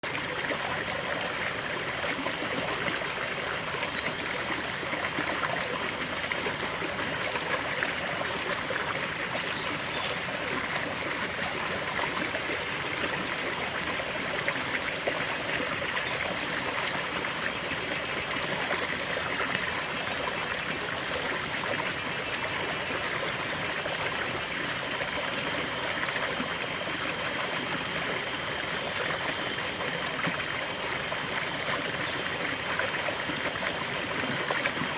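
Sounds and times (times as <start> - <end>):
river water babbling over stones: 0.0 - 34.9.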